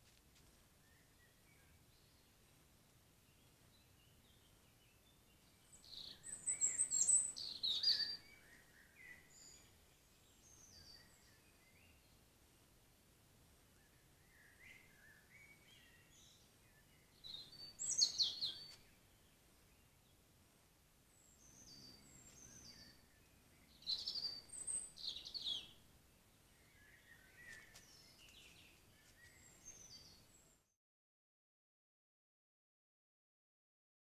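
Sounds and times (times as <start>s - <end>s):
songbirds singing: 0.7s - 30.7s.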